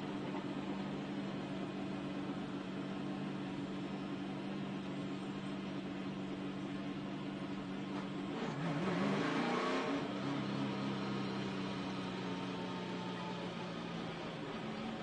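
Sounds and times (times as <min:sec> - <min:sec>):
race car engine droning: 0:00.0 - 0:15.0.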